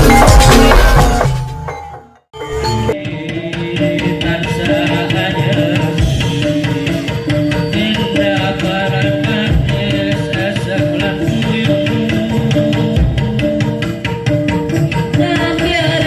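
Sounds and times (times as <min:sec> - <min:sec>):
steady drum beat: 0:00.0 - 0:01.8, 0:03.2 - 0:16.0.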